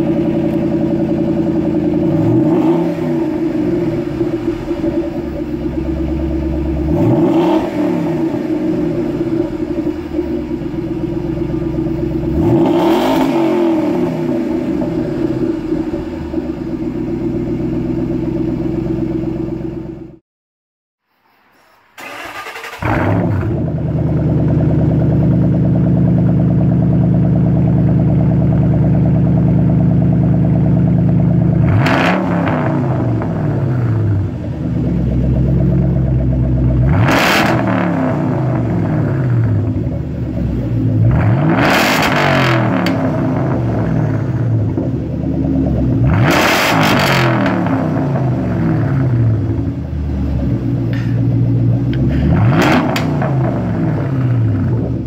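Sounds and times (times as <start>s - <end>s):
car engine idling and revving: 0.0s - 20.2s, 22.0s - 55.0s.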